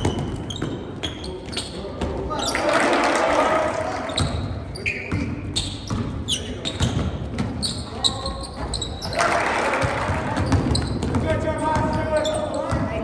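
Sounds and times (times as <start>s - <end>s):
sneakers squeaking: 0.0s - 2.8s, 4.0s - 13.0s.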